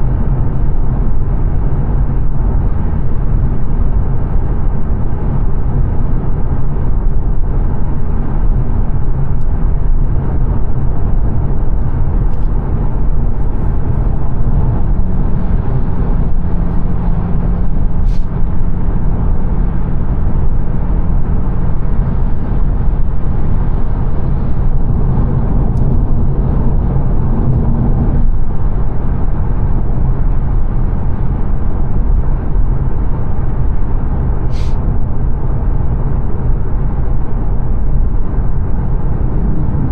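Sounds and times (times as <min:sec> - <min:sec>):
low engine hum: 0:00.0 - 0:39.9
road and tyre noise: 0:00.0 - 0:39.9.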